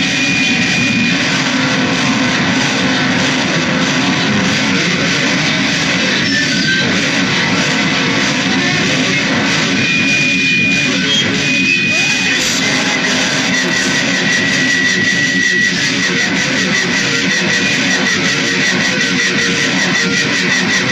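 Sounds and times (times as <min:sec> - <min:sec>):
distorted guitar noise music: 0:00.0 - 0:20.9.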